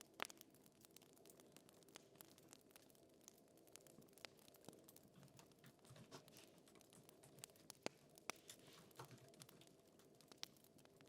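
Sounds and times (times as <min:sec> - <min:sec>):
fire crackling: 0:00.0 - 0:11.0
sharp pops from fire: 0:00.0 - 0:11.0.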